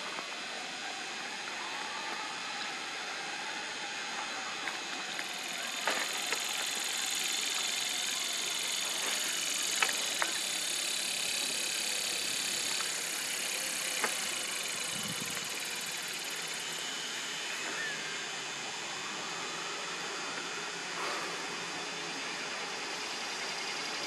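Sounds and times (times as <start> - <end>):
outdoor hiss and hum: 0.0 - 24.0.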